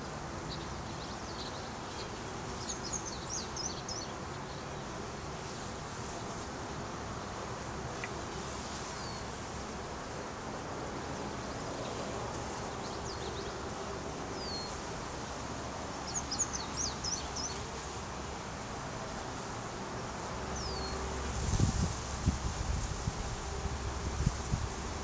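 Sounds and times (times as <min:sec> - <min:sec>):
bee swarm humming: 0:00.1 - 0:25.0.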